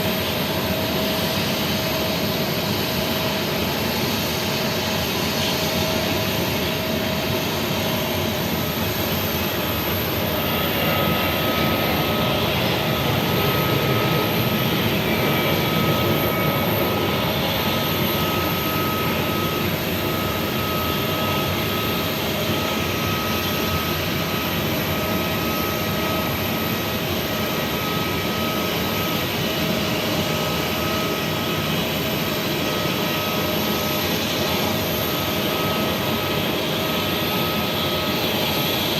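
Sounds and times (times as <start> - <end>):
jet engines idling: 0.0 - 38.9.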